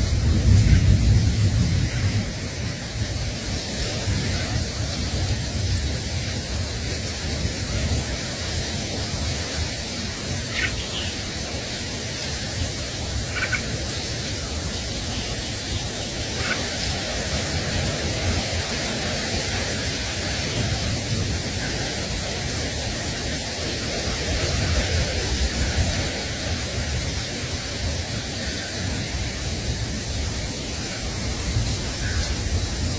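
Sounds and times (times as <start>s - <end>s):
steady rushing noise: 0.0s - 32.9s.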